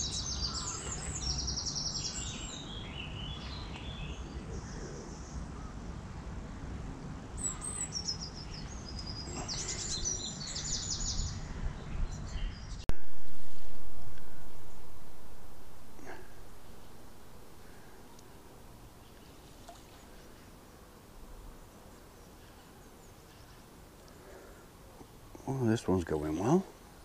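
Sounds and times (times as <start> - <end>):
small birds singing: 0.0 - 6.2, 7.3 - 12.9, 14.7 - 20.7, 21.6 - 27.0
low rumbling background noise: 0.0 - 27.0.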